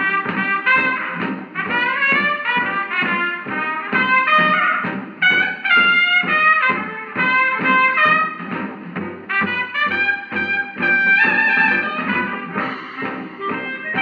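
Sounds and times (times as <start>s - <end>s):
brass music on old radio: 0.0s - 14.0s.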